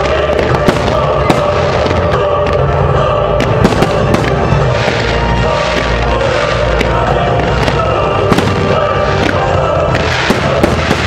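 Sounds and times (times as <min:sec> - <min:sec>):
fireworks bangs and crackles: 0:00.0 - 0:11.0
loud music: 0:00.0 - 0:11.0.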